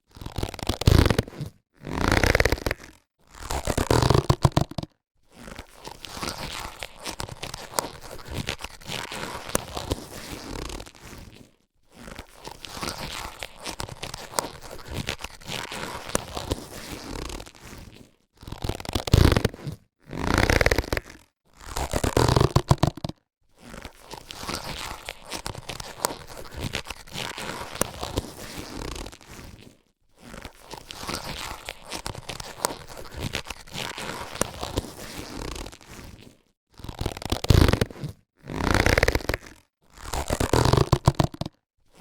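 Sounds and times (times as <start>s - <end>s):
latex gloves crinkling and squeaking: 0.0s - 42.0s.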